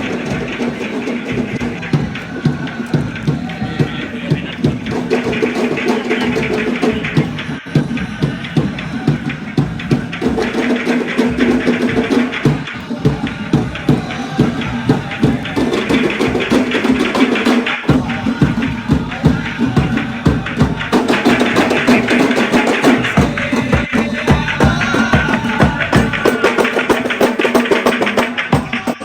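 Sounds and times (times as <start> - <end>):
frame drums beating: 0.0 - 29.0
group chanting: 0.0 - 29.0.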